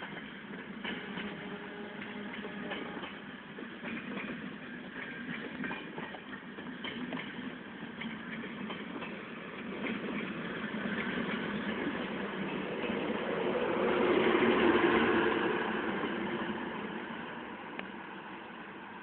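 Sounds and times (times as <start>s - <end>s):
train wheels clicking over rails: 0.0s - 18.0s.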